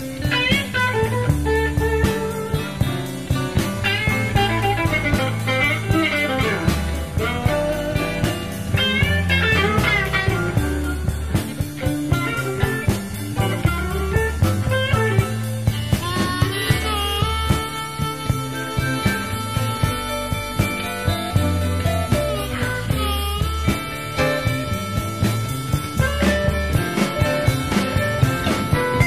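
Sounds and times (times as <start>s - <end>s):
bass: 0.0s - 29.0s
drum kit beat: 0.0s - 29.0s
lead electric guitar: 0.0s - 29.0s.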